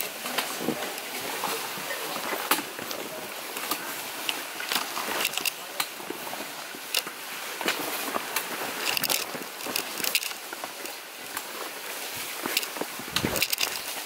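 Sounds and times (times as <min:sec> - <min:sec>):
footsteps on wet trail: 0:00.0 - 0:14.0.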